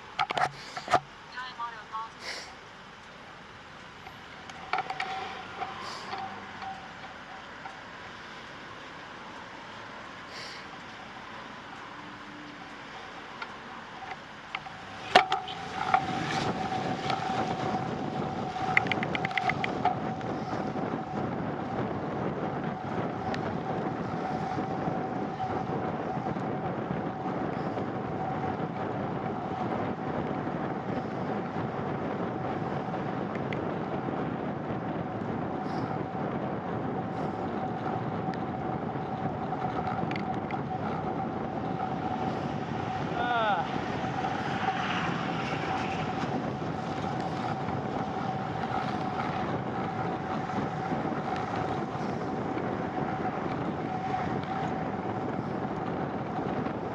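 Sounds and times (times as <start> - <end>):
bicycle tyres on wet pavement: 0.0 - 56.9
steady whine: 0.0 - 56.9
wind on microphone: 4.0 - 8.0, 10.3 - 56.9.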